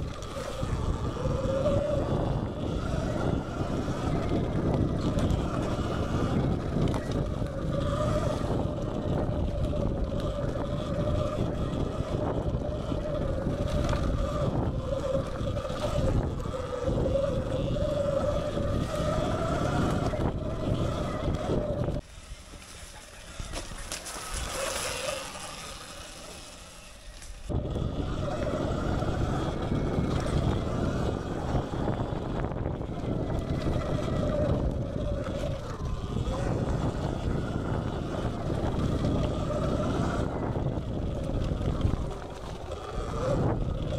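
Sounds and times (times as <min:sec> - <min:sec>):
electric dirt bike motor whine: 0:00.0 - 0:43.9
wind buffeting on microphone: 0:00.0 - 0:43.9.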